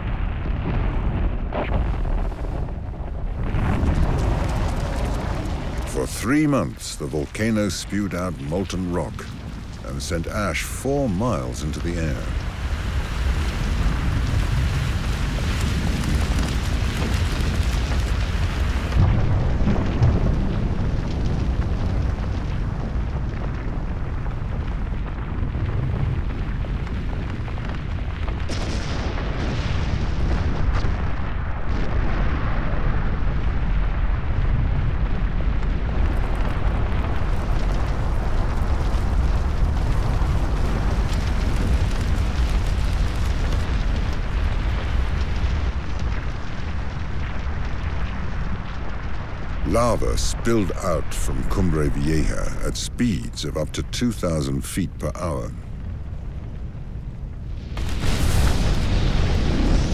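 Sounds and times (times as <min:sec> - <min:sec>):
volcano rumbling and crackling: 0:00.0 - 0:59.9.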